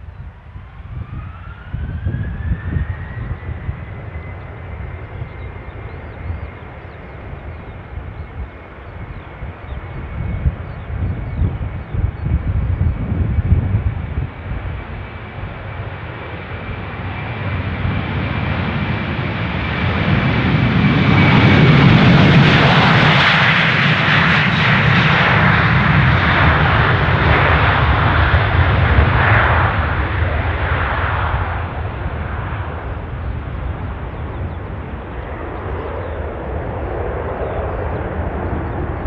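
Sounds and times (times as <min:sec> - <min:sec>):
jet aircraft flying past: 0:00.0 - 0:39.0.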